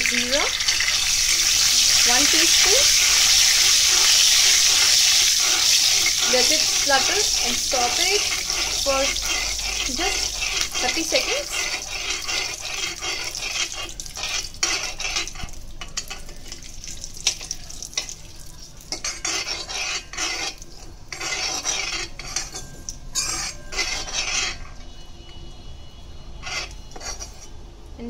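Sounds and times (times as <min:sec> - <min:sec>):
spatula scraping pan: 0:00.0 - 0:18.2, 0:18.8 - 0:25.3, 0:26.1 - 0:27.6
seeds sizzling in hot oil: 0:00.0 - 0:24.8.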